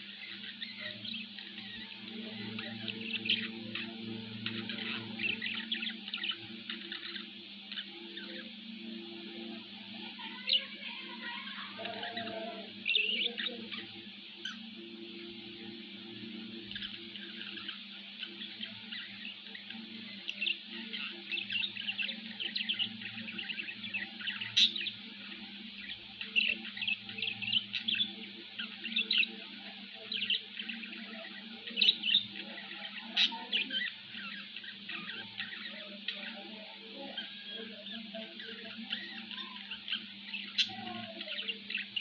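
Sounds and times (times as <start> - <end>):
budgerigars chattering: 0.0 - 42.0
steady low hum: 0.0 - 42.0.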